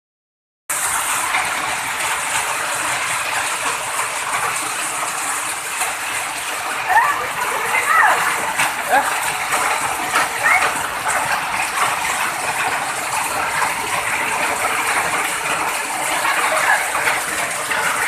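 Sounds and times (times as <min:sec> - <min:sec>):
flowing water rushing: 0:00.7 - 0:18.0.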